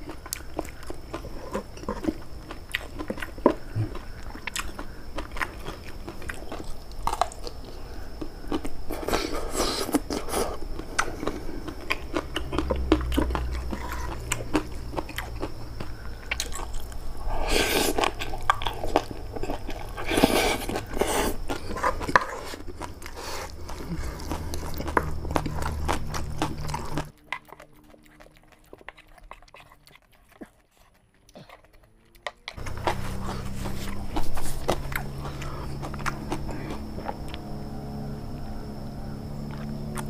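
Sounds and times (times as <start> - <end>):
wet chewing and crunching: 0.0 - 40.0.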